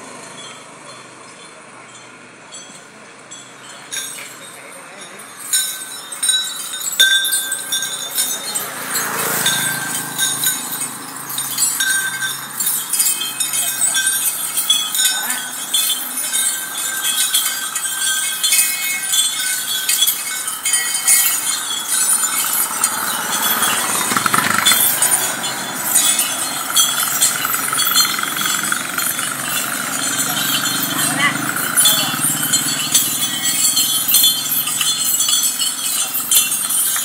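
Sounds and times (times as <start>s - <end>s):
metallic clinking and jingling: 0.0s - 37.0s
road noise: 0.0s - 37.0s
vehicle passing: 0.0s - 37.0s.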